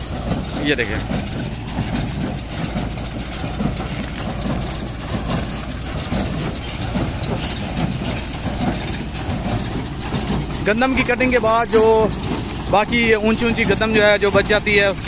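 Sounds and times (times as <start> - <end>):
baler machinery running: 0.0 - 15.0
tractor engine running: 0.0 - 15.0.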